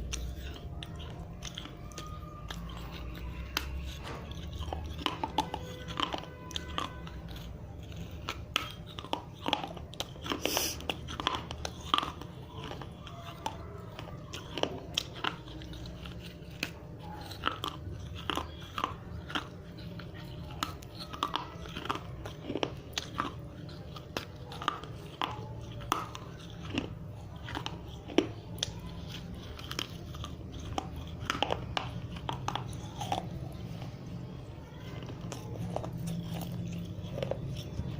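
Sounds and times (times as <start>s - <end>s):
clay crunching when chewed: 0.0s - 37.9s.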